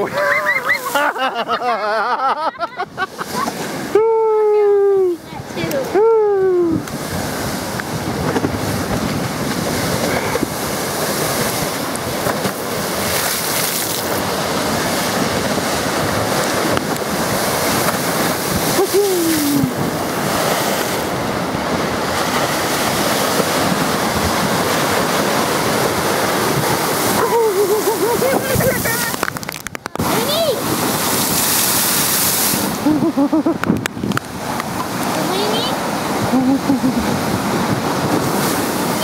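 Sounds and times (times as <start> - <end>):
waves breaking against seawall: 0.0 - 39.0.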